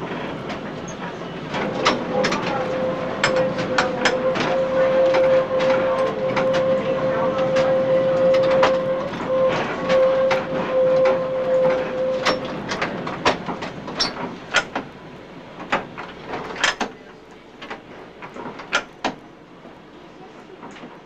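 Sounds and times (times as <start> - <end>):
tram running gear clicking: 0.0 - 19.8, 20.4 - 21.0
tram humming: 0.0 - 21.0.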